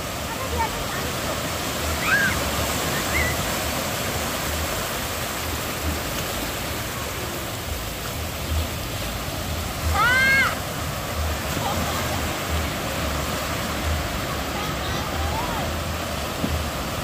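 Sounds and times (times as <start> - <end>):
small waves breaking: 0.0 - 17.0.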